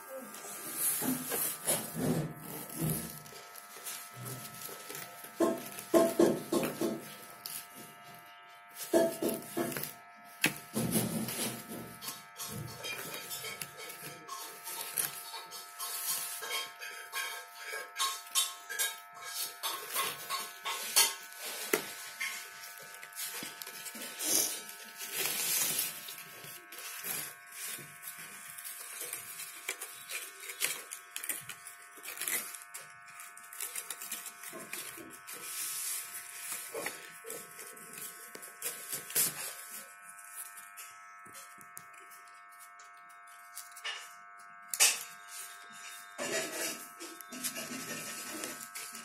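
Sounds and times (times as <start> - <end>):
buzzing hum: 0.0 - 49.0
paper and card rustling: 0.1 - 49.0.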